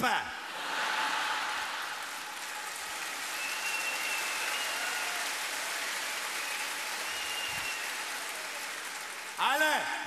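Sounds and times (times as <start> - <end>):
large crowd applauding: 0.5 - 10.0.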